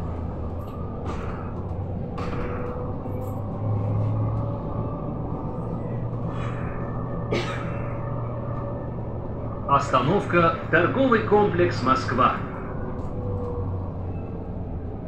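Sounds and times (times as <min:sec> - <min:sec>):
bus ride rumble: 0:00.0 - 0:15.0.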